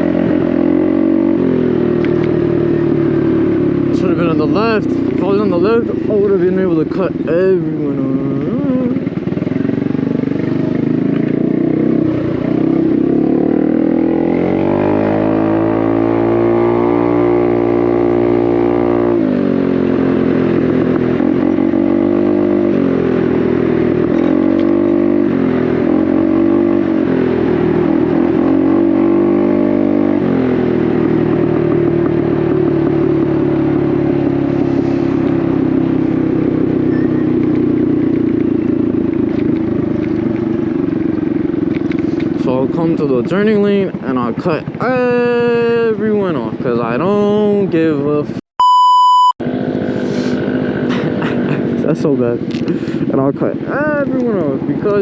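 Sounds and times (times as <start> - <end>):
motorcycle engine revving: 0.0 - 48.4, 49.4 - 55.0.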